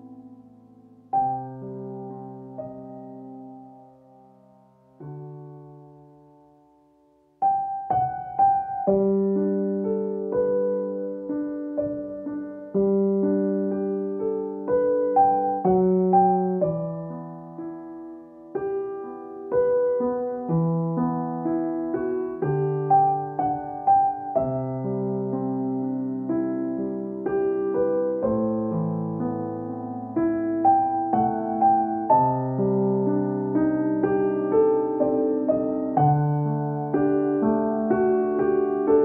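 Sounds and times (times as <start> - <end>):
calm slow piano music: 0.0 - 39.0.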